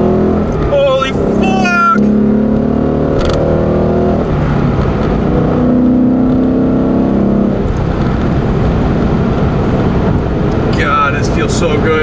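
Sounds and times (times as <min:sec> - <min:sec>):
car engine accelerating hard: 0:00.0 - 0:12.0
road noise: 0:00.0 - 0:12.0.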